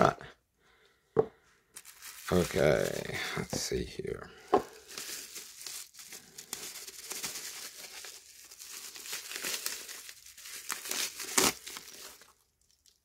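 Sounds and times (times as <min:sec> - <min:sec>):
bubble wrap crinkling: 0:01.7 - 0:13.0.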